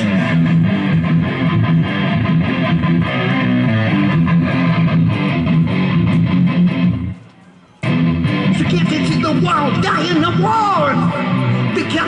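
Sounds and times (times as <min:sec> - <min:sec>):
electric guitar rock playing: 0:00.0 - 0:07.2, 0:07.8 - 0:12.0.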